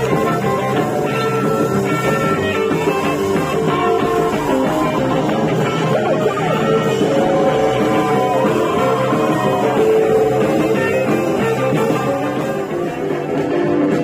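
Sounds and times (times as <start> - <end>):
hollow-body electric guitar: 0.0 - 14.0
rockabilly band playing: 0.0 - 14.0.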